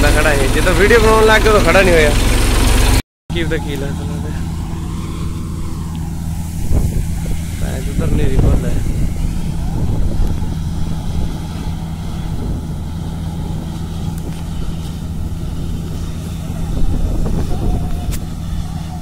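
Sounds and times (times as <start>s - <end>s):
diesel machinery droning: 0.0s - 19.0s.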